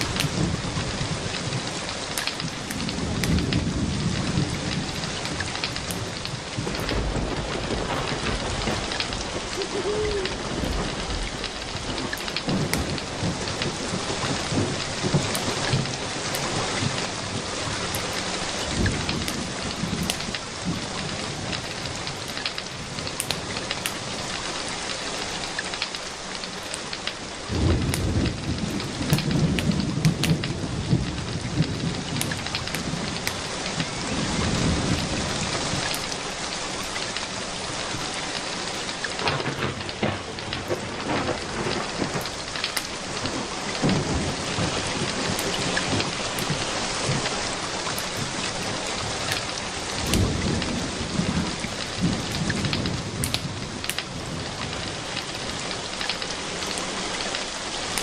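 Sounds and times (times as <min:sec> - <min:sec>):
distant thunder rumbling: 0:00.0 - 0:25.3, 0:26.0 - 0:58.0
steady rain falling: 0:00.0 - 0:58.0.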